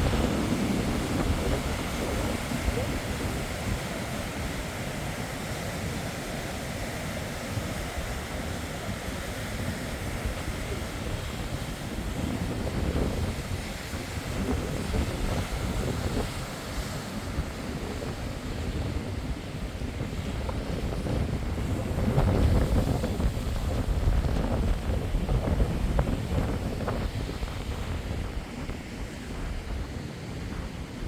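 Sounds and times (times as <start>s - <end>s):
sea waves surging: 0.0s - 31.0s
wind buffeting microphone: 0.0s - 31.0s.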